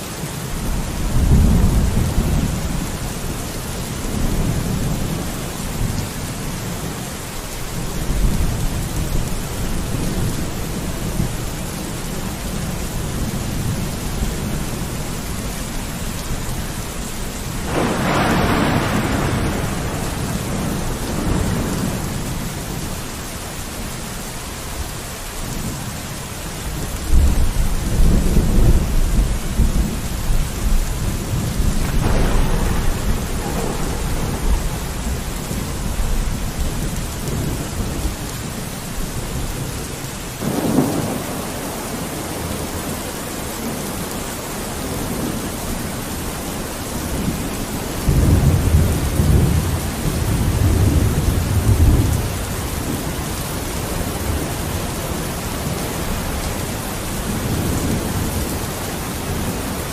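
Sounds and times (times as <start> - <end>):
steady rain: 0.0 - 59.9
rolling thunder: 0.6 - 7.1, 7.7 - 23.4, 27.0 - 43.8, 46.2 - 59.7.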